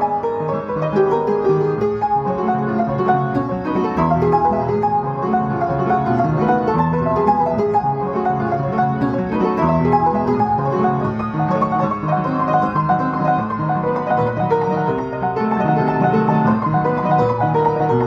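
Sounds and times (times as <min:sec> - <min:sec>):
solo piano classical piece: 0:00.0 - 0:18.0.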